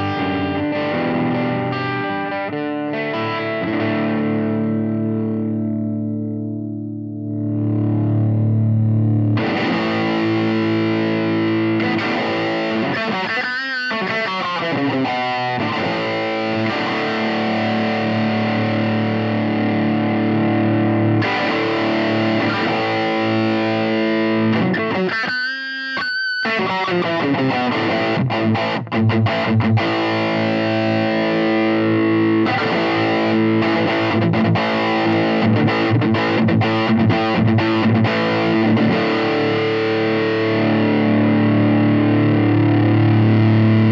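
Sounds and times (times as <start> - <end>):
distorted electric guitar chords: 0.0 - 43.9.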